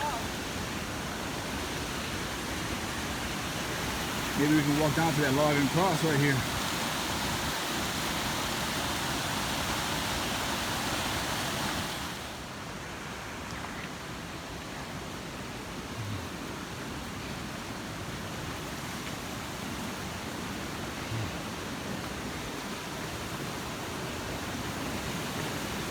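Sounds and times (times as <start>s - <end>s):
mountain stream rushing: 0.0s - 25.9s.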